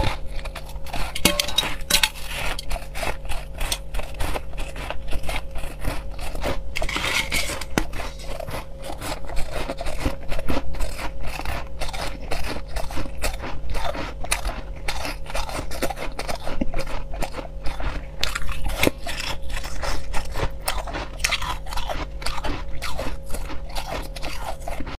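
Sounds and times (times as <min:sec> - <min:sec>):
crushed ice being chewed: 0:00.0 - 0:25.0
faint steady hum: 0:00.0 - 0:25.0.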